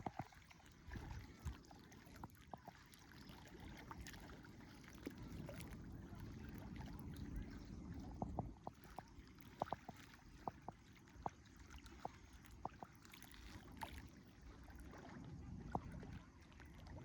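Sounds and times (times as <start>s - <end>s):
water lapping and gurgling: 0.0s - 17.0s.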